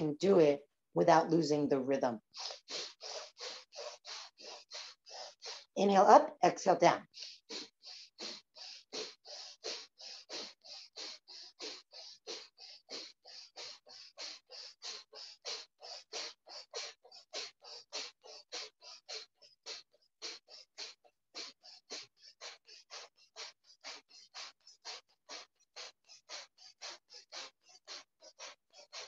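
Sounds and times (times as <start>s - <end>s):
rapid forceful breathing through nose: 2.2s - 5.8s, 7.0s - 29.0s.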